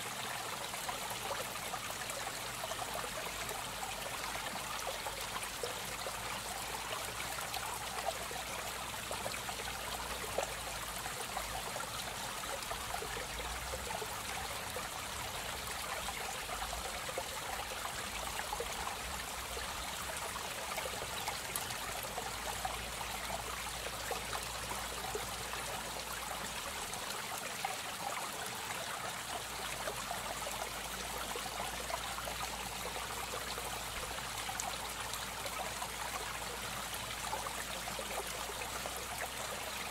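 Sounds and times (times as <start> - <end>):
aquarium water trickling and splashing: 0.0 - 39.9.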